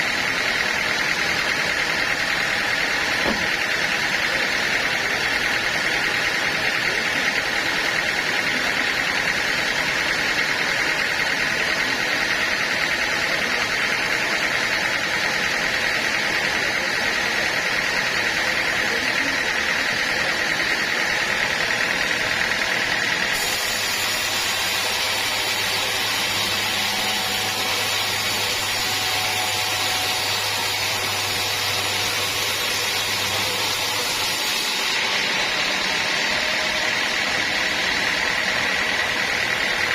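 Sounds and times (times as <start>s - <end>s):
sawmill machinery cutting logs: 0.0s - 39.9s.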